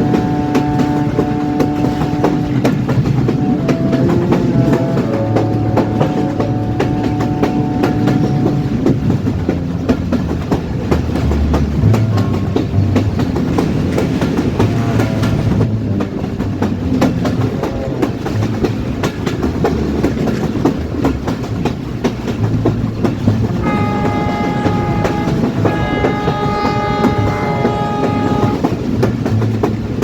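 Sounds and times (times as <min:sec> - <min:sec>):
train horn: 0:00.0 - 0:18.4, 0:23.0 - 0:29.4
train rumble: 0:00.0 - 0:30.0
train wheels clicking over rail joints: 0:00.0 - 0:30.0.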